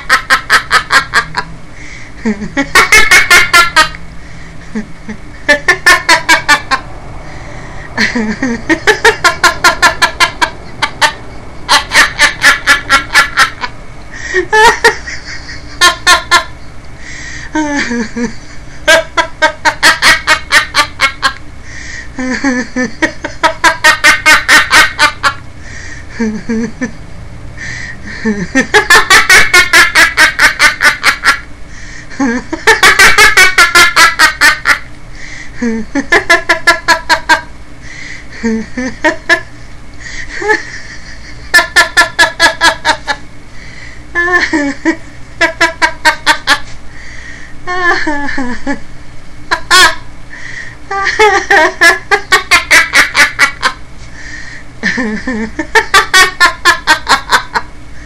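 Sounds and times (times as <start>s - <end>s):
woman laughing: 0.0s - 1.5s, 2.2s - 4.0s, 4.6s - 6.8s, 8.0s - 21.4s, 22.1s - 25.4s, 26.1s - 27.0s, 27.7s - 34.9s, 35.5s - 37.5s, 38.3s - 43.2s, 44.1s - 46.8s, 47.6s - 48.9s, 49.5s - 53.8s, 54.8s - 57.7s.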